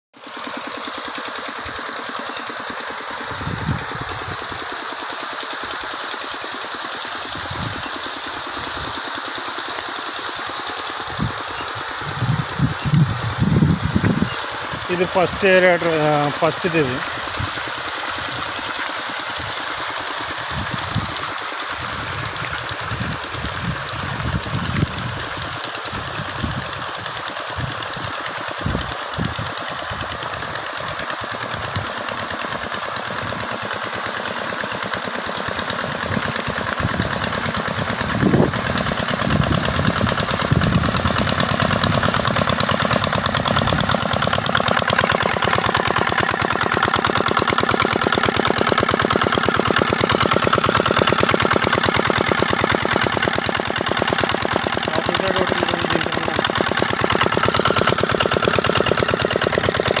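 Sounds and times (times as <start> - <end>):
auto-rickshaw engine running: 0.2 - 60.0.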